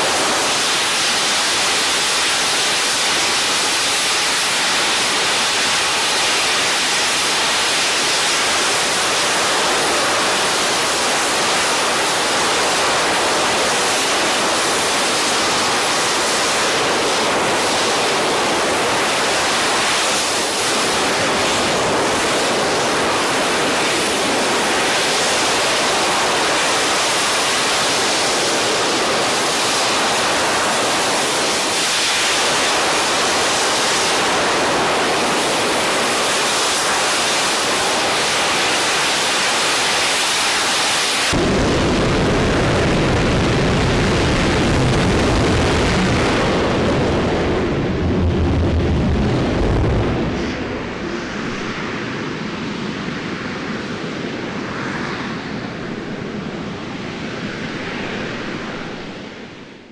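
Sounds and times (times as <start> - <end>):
sped-up rocket engine hiss: 0.0 - 48.0, 48.6 - 53.6.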